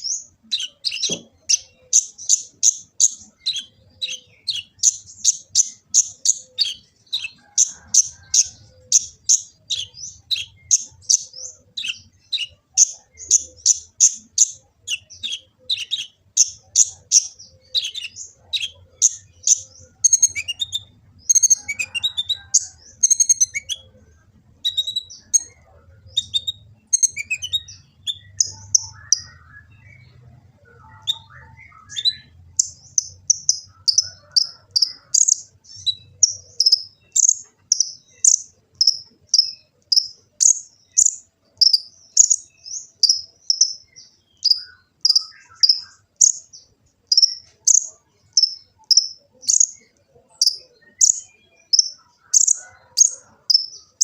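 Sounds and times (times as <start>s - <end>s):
bird chirping and twittering: 0.0s - 54.0s.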